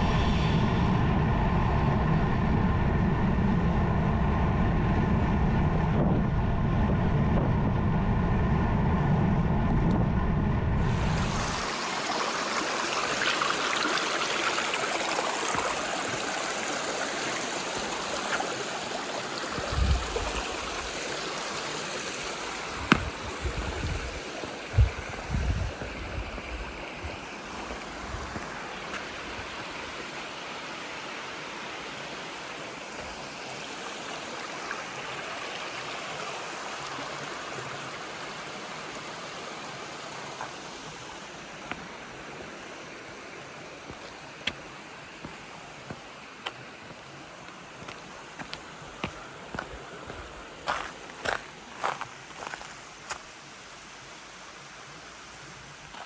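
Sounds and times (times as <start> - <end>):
running water rushing: 10.8 - 56.0.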